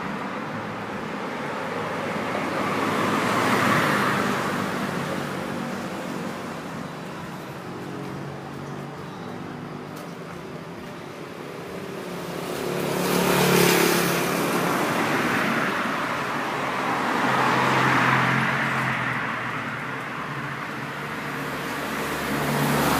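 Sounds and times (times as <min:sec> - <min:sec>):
vehicles passing: 0:00.0 - 0:22.9.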